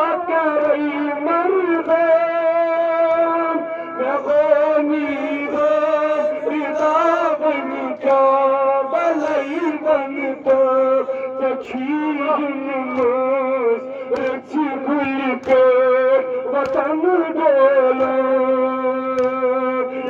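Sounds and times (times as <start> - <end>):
man chanting through microphone: 0.0 - 20.0.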